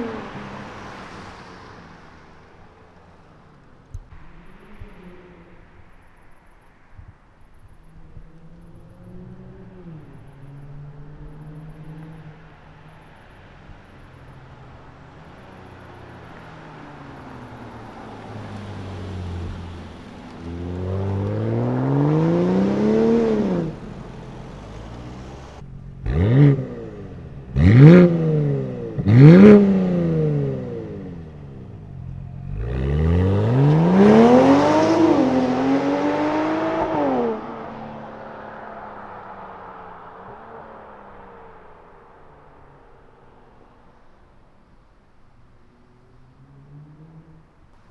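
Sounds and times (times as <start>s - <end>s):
car engine accelerating: 0.0s - 6.6s, 7.7s - 47.9s.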